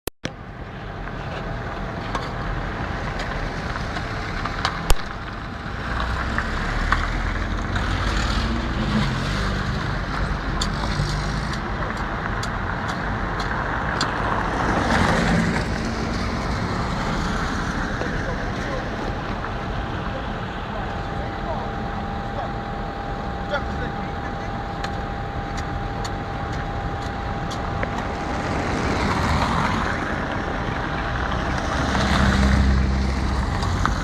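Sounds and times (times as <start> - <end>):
road noise: 0.2 - 34.0
vehicle engine rumble: 0.3 - 34.0.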